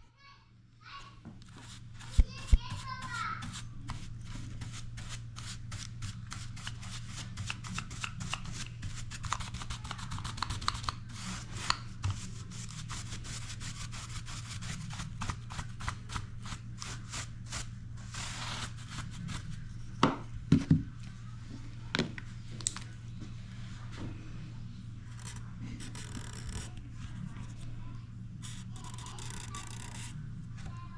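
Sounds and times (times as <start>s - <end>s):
steady low hum: 0.4s - 30.9s.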